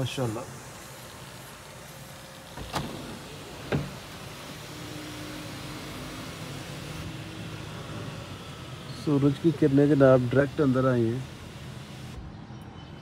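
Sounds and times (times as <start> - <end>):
sunroof motor humming: 0.0 - 12.3.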